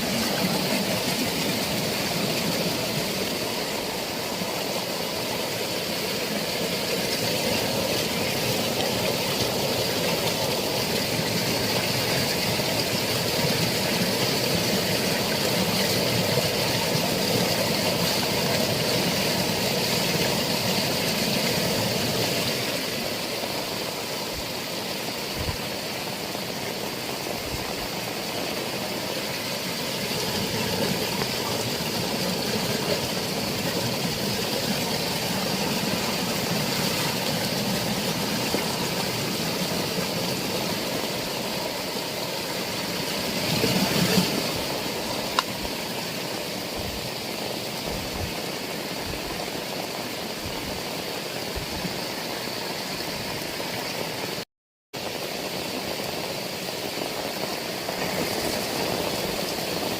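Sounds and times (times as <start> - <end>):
heavy rain hissing: 0.0 - 54.4, 55.0 - 59.9.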